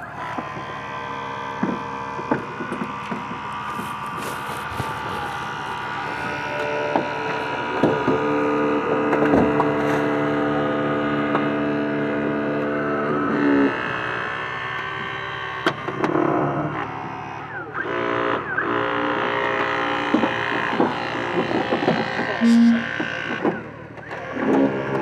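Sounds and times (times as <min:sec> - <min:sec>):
hydraulic power unit running: 0:00.0 - 0:25.0.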